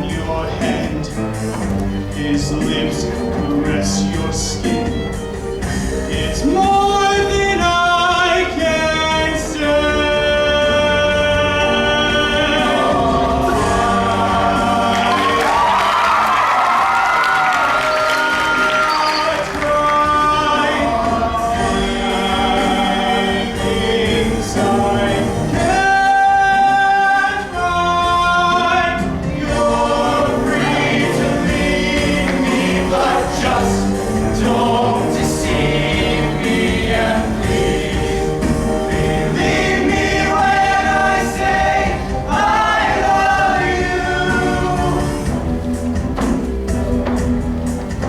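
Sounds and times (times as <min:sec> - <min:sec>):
choir singing in harmony: 0:00.0 - 0:48.0
live band with drums: 0:00.0 - 0:48.0.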